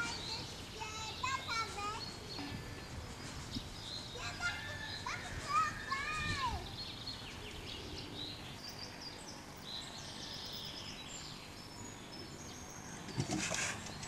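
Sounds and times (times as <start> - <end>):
outdoor background hum: 0.0 - 14.0
small birds chirping: 0.0 - 14.0.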